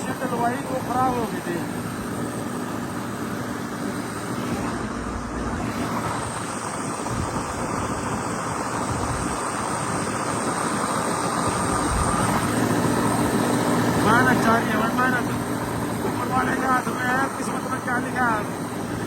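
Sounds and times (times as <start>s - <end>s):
tractor engine droning: 0.0s - 19.0s.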